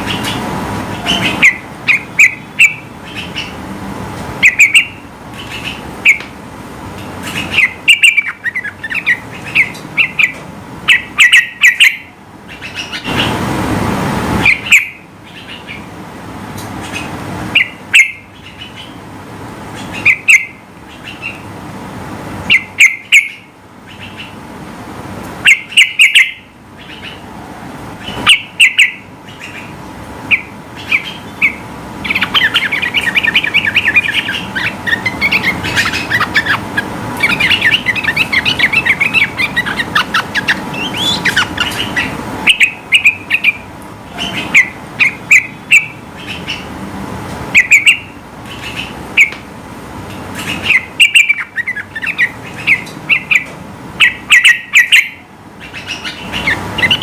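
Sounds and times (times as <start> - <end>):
rapid bird chattering: 0.0 - 3.6, 4.4 - 6.3, 7.0 - 13.4, 14.4 - 15.9, 16.8 - 19.1, 19.7 - 21.5, 22.5 - 24.4, 25.4 - 27.3, 28.0 - 46.8, 47.5 - 49.4, 50.3 - 57.0.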